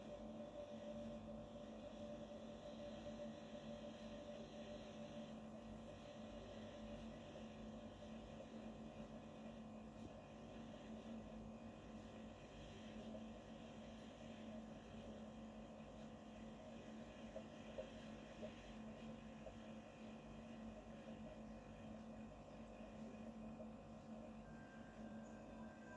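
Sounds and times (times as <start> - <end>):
faint steady hum: 0.0 - 25.9.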